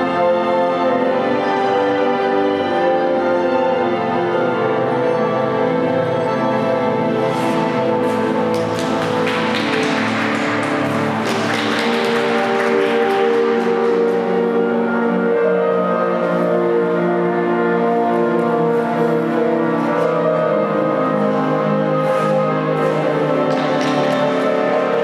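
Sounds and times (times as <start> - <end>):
orchestral music with strings: 0.0 - 25.0.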